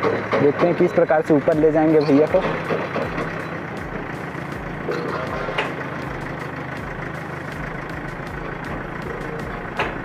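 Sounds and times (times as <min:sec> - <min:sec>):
crane engine running: 0:00.0 - 0:10.0.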